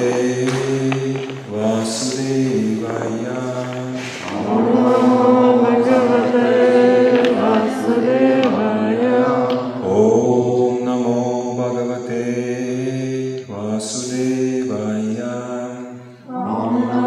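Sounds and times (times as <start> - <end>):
voices chanting mantra: 0.0 - 17.0.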